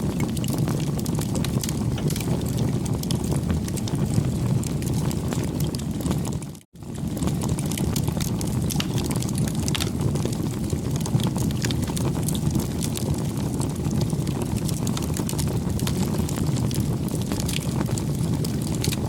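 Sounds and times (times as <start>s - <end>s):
flame rushing: 0.0s - 19.0s
wood crackling and popping: 0.0s - 19.0s.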